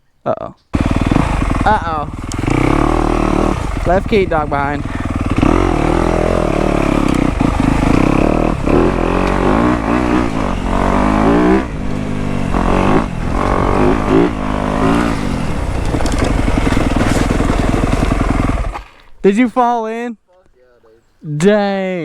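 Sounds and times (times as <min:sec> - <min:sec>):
dirt bike engine revving: 0:00.7 - 0:19.0.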